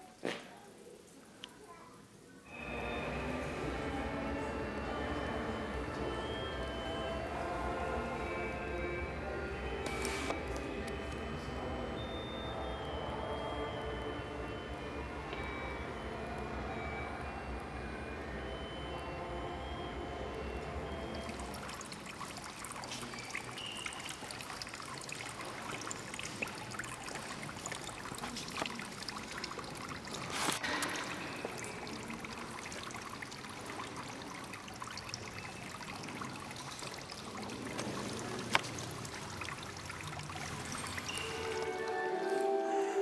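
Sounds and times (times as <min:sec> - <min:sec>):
water trickling from fountain: 0:00.1 - 0:43.0.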